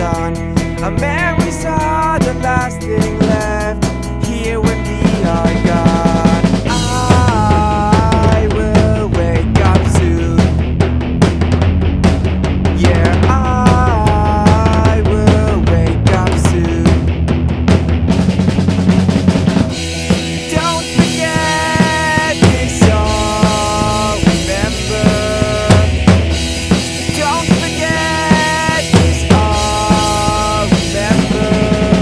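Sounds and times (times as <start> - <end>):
drum kit beat: 0.0 - 32.0
electric guitar: 0.0 - 32.0.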